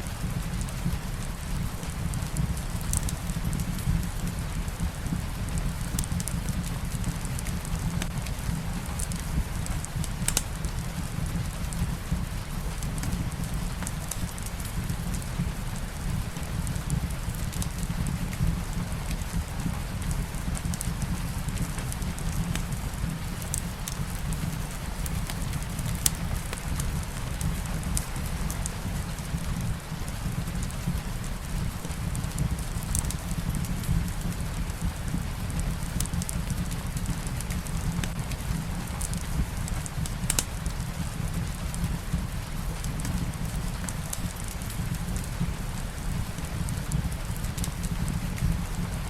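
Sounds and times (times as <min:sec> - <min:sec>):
fireplace crackling: 0:00.0 - 0:49.0
steady rain: 0:00.0 - 0:49.0.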